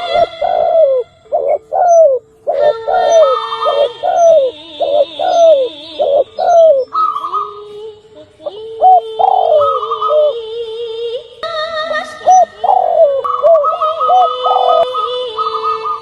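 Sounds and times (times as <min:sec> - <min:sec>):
dove cooing: 0:00.0 - 0:16.0
steady held tones: 0:00.0 - 0:16.0.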